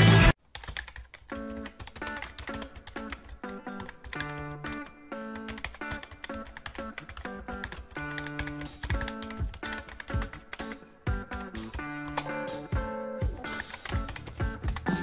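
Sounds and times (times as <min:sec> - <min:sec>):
background music: 0:00.0 - 0:00.4, 0:01.3 - 0:15.0
rapid keyboard typing clicks: 0:00.4 - 0:12.6, 0:13.4 - 0:15.0.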